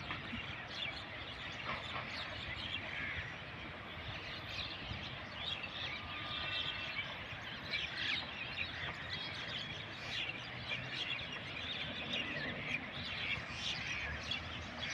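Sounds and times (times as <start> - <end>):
birds chattering and chirping: 0.0 - 14.9.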